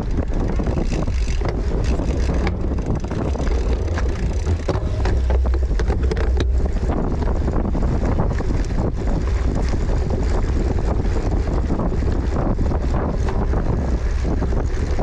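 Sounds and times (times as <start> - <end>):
bike rattles and clicks: 0.0 - 15.0
low rumble: 0.0 - 15.0
wind buffeting microphone: 0.0 - 15.0.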